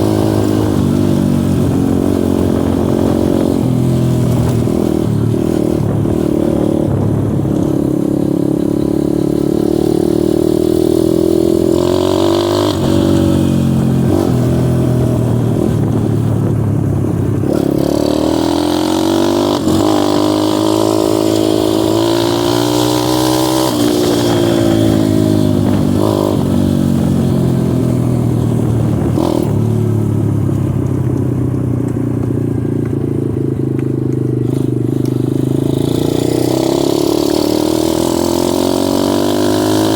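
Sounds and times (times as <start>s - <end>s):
dirt bike engine revving: 0.0s - 30.6s, 34.4s - 39.9s.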